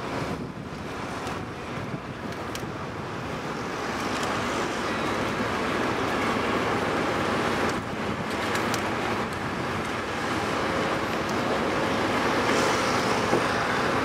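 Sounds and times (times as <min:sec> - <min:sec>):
dockside machinery noise: 0:00.0 - 0:14.0.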